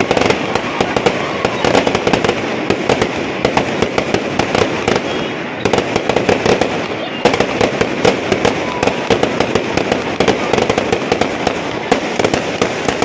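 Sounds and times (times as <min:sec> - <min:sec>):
large crowd noise: 0:00.0 - 0:13.0.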